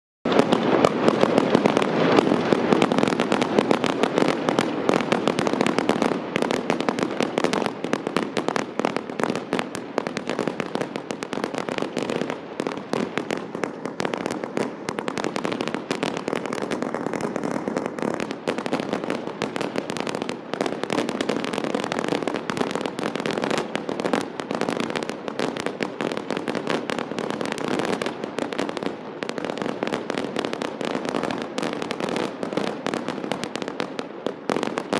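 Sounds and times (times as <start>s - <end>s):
fireworks bangs and crackling: 0.3s - 34.9s.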